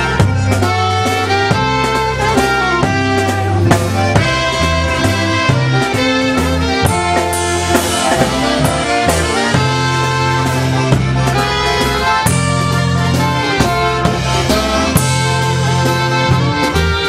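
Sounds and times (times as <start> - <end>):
dance band playing a waltz: 0.0 - 17.0
saxophone: 0.0 - 17.0
trumpet: 0.0 - 17.0.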